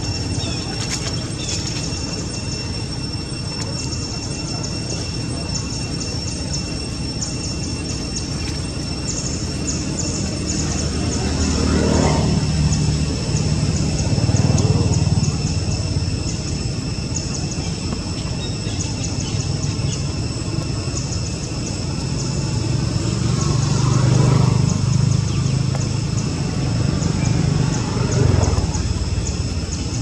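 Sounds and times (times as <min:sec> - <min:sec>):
high-pitched buzzing: 0:00.0 - 0:30.0
rapid chirping: 0:00.0 - 0:30.0
vehicle engines passing: 0:00.0 - 0:30.0.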